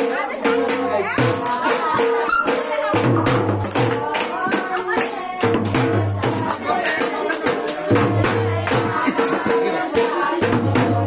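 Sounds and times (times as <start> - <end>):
percussion beat: 0.0 - 11.0.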